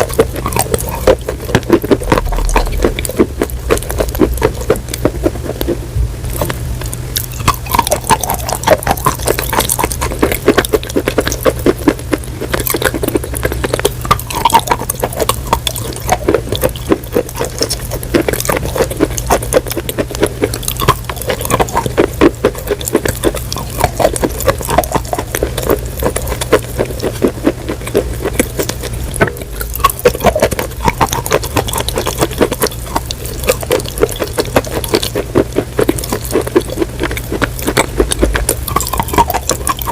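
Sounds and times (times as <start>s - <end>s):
crunching and chewing food: 0.0s - 39.9s
steady low hum: 0.0s - 39.9s.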